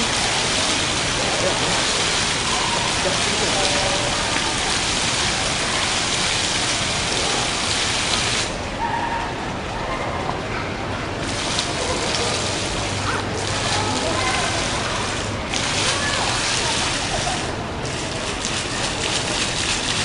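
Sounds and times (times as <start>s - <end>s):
fountain water splattering: 0.0s - 20.0s.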